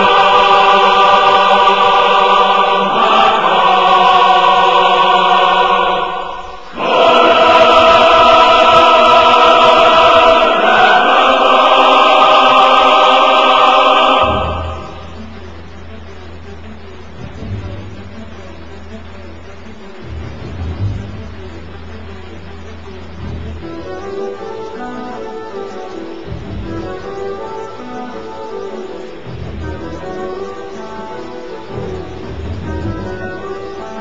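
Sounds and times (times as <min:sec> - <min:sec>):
choir singing held chords: 0:00.0 - 0:18.4, 0:20.0 - 0:34.0.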